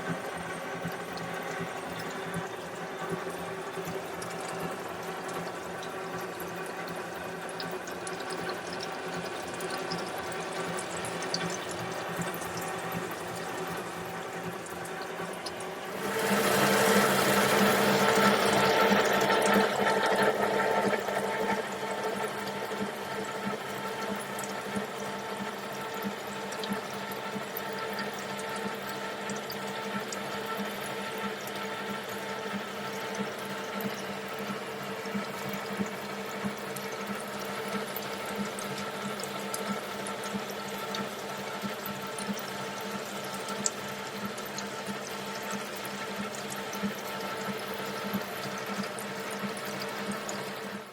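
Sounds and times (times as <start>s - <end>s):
gear hobbing machine hum: 0.0s - 50.9s.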